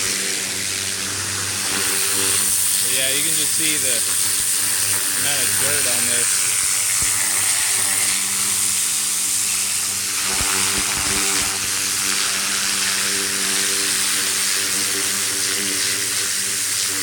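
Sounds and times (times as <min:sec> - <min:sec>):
pressure washer motor humming: 0:00.0 - 0:17.0
water jet hissing on fabric: 0:00.0 - 0:17.0.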